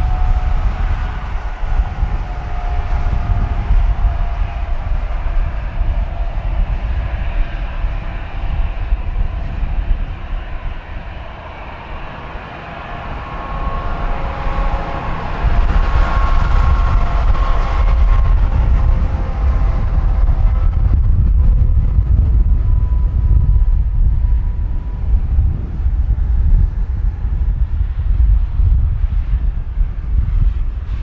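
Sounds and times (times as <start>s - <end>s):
jet engines whining: 0.0s - 28.2s
wind buffeting microphone: 0.0s - 31.0s.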